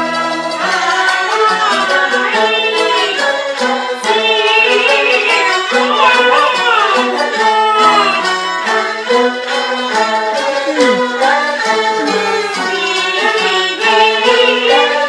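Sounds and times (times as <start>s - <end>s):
bowed fiddle melody: 0.0s - 15.0s.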